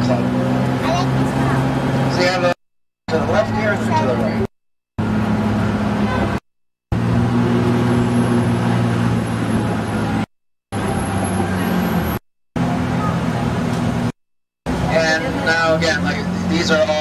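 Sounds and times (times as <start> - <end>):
bus engine humming: 0.0 - 17.0
street traffic: 0.0 - 17.0.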